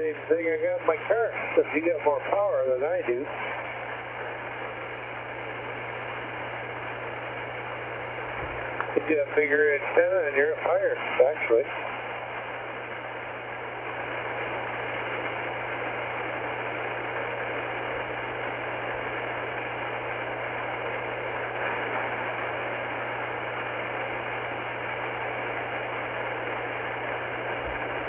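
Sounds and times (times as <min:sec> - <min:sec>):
low steady hum: 0:00.0 - 0:28.0
radio static hiss: 0:00.0 - 0:28.0.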